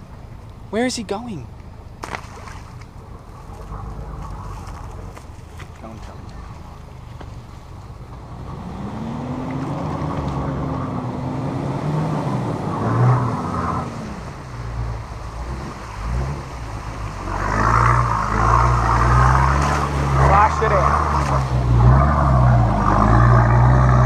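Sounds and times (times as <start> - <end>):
engine running and revving: 2.9 - 24.0.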